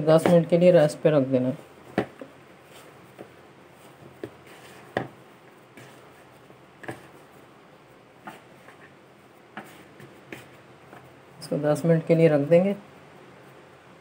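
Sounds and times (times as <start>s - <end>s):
hand kneading dough in bowl: 0.0s - 12.1s.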